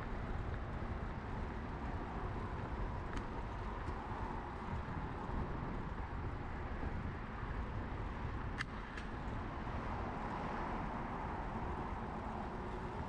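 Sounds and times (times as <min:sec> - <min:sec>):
city traffic rumble: 0:00.0 - 0:13.0
wind noise: 0:00.0 - 0:13.0.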